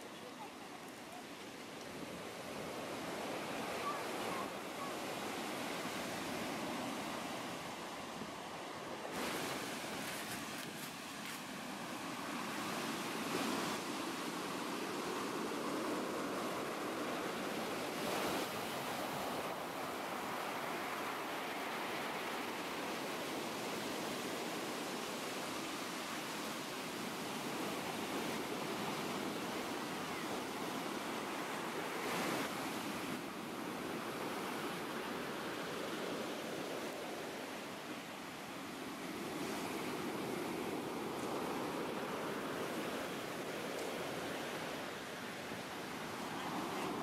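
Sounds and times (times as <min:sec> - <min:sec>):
sea surf breaking on beach: 0:00.0 - 0:47.0.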